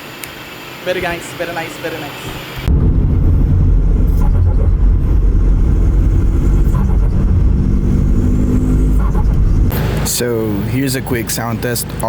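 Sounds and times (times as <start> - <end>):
loud low exhaust rumble: 0.0 - 12.0.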